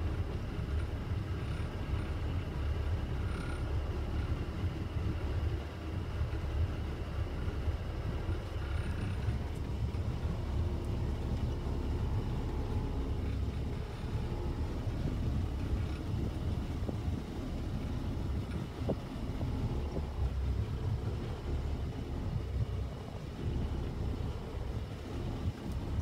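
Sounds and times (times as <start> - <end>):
water washing along hull: 0.0 - 26.0
wind rumble on microphone: 0.0 - 26.0.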